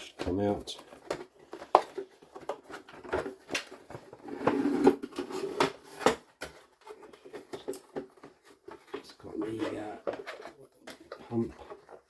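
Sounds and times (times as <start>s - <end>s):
plastic scraping and rubbing: 0.0s - 12.0s.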